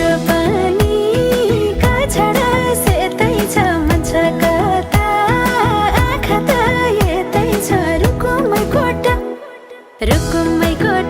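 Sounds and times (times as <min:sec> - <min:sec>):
pop song with drum beat: 0:00.0 - 0:11.0.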